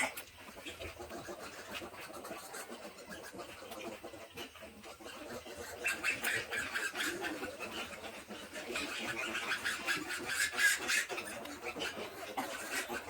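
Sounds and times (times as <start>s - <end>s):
piglets squealing: 1.4s - 13.0s.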